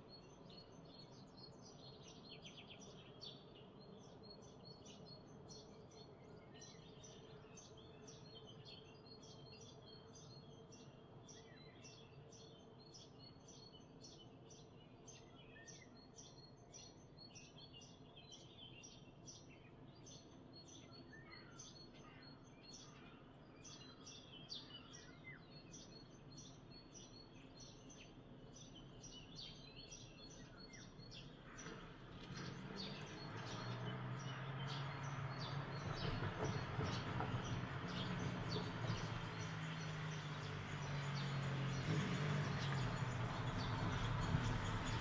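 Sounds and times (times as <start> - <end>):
small songbirds chirping: 0.0 - 45.0.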